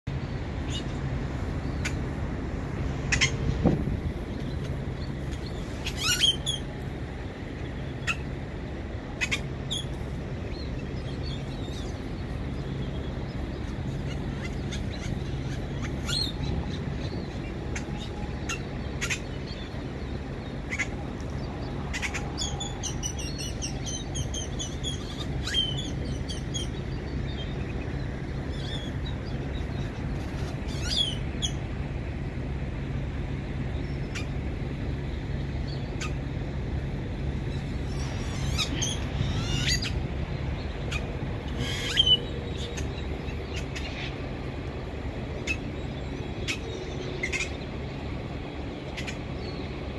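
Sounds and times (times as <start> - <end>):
birds calling: 0.1 - 49.9
idling trucks hum: 0.1 - 49.9.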